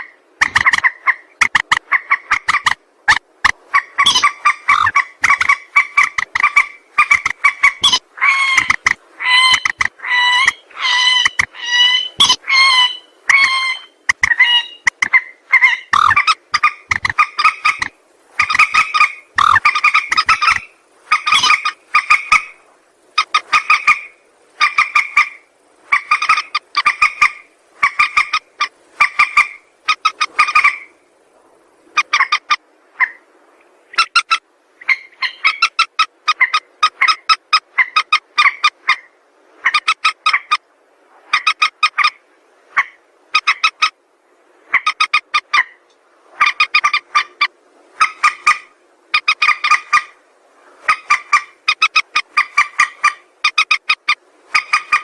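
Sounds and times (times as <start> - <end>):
rail bird calling: 0.0 - 33.3, 33.9 - 40.6, 41.2 - 44.0, 44.6 - 50.2, 50.8 - 55.0.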